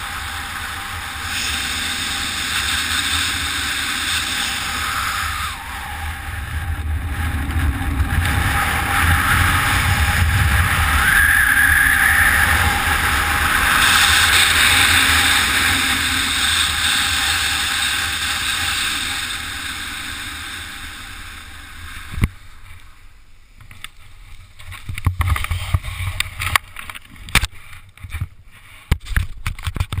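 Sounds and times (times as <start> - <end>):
rustles: 0.0 - 30.0
wind rushing over camera: 0.0 - 30.0.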